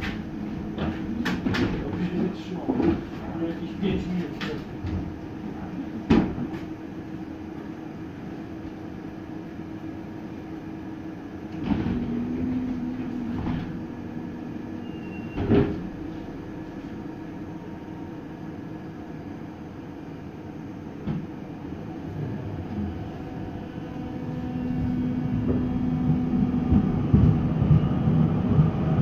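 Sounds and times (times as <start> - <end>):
light-rail car hum: 0.0 - 29.0.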